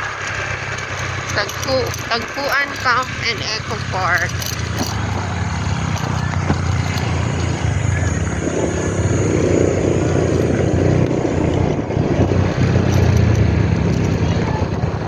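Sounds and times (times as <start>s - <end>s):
diesel engine droning: 0.0s - 15.0s
road and wind noise: 0.0s - 15.0s.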